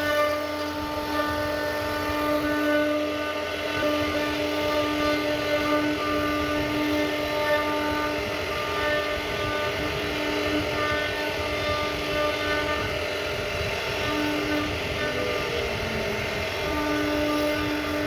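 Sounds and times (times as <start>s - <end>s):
router carving wood: 0.0s - 18.0s
sustained held tones: 0.0s - 18.0s.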